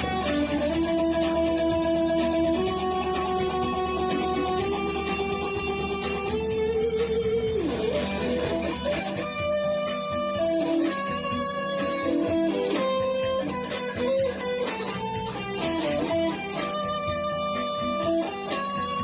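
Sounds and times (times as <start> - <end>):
electric guitar music: 0.0 - 19.0.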